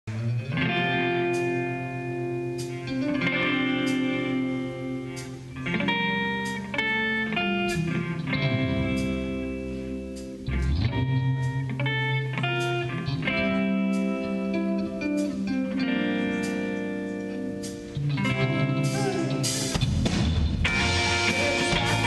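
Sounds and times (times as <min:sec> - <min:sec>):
electric guitar chords: 0:00.0 - 0:22.0
live rock band playing: 0:00.1 - 0:22.0.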